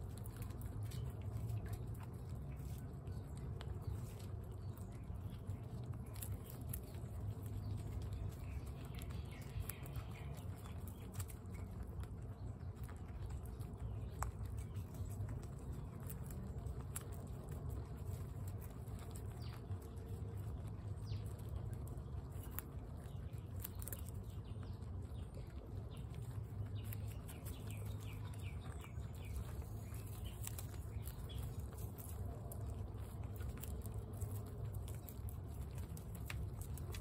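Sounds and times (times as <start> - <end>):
guinea pigs crunching pellets: 0.0 - 37.0
low background hum: 0.0 - 37.0.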